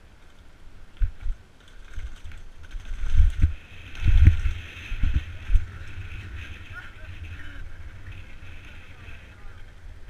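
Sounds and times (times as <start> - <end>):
bike chain rattling: 1.5 - 9.8.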